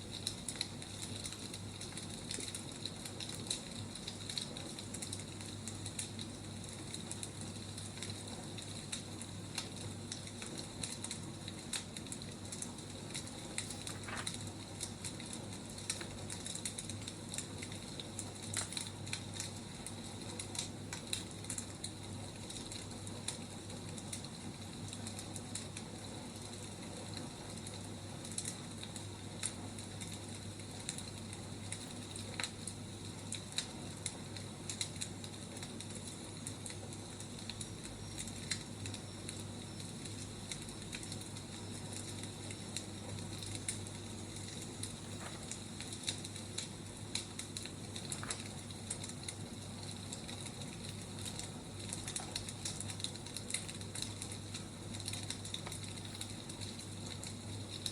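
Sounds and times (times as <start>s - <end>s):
firewood crackling and popping: 0.0s - 57.9s.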